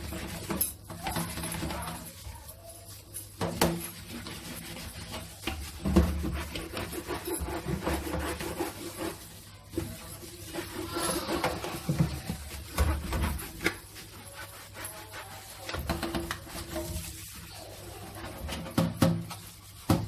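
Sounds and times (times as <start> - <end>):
brush scrubbing filter: 0.0 - 20.0.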